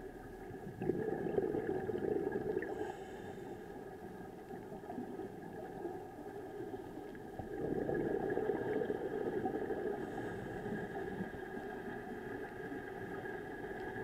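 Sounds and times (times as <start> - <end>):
faint steady hums: 0.0 - 14.0
underwater low rush: 0.0 - 14.0.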